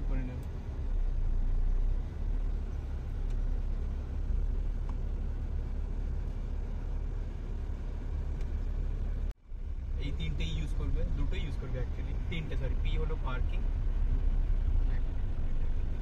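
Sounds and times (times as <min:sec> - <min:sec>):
car engine rumble: 0:00.0 - 0:16.0
tyres rolling on road: 0:00.0 - 0:16.0.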